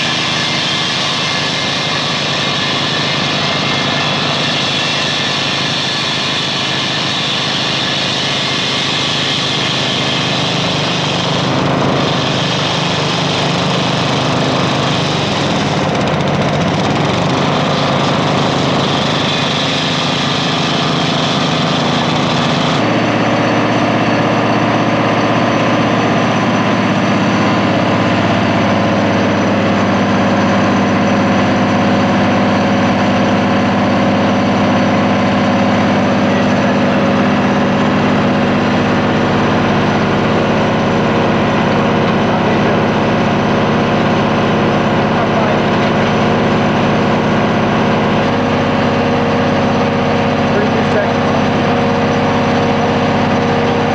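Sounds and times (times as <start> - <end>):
core drill engine running: 0.0 - 53.9
vacuum excavator engine: 0.0 - 53.9.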